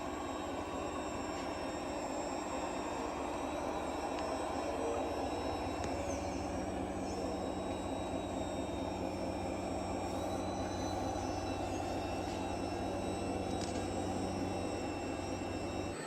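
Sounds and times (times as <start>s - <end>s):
model trucks mechanical drone: 0.0s - 16.0s
thin high motor whines: 0.0s - 16.0s.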